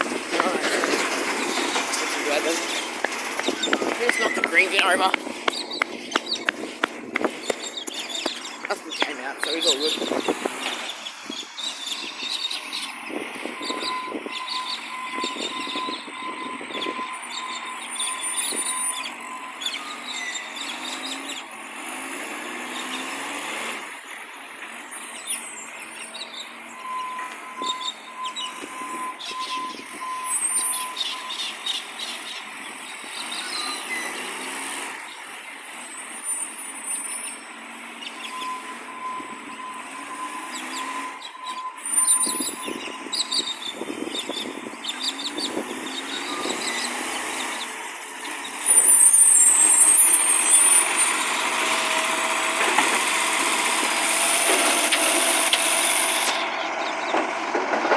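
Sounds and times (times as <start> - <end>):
garbage truck engine revving: 0.0 - 29.0, 29.8 - 57.9.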